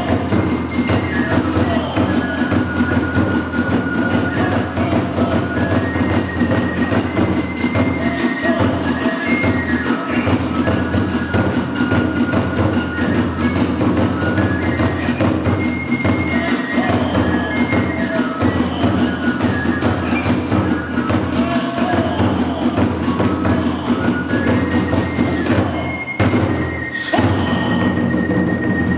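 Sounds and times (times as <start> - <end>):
bamboo flute melody: 0.0 - 28.9
rapid drumming: 0.0 - 28.9.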